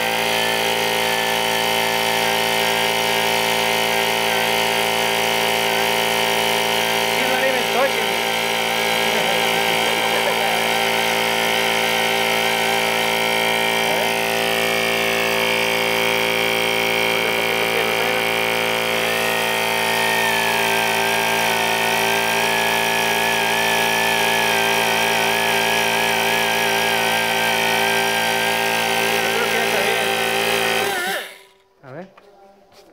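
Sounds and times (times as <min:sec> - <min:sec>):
pneumatic grinder whining: 0:00.0 - 0:31.7.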